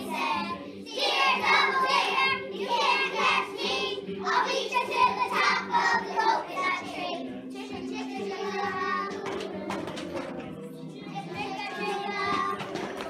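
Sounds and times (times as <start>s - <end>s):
young children singing: 0.0s - 13.0s.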